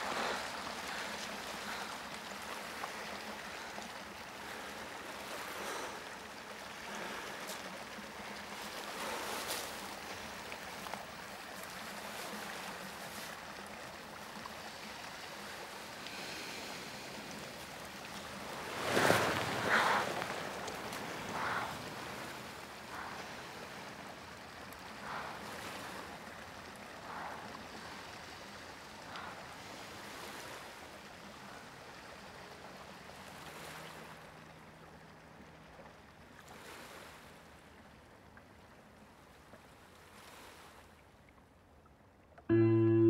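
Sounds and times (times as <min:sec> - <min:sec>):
small waves lapping at shore: 0:00.0 - 0:42.3.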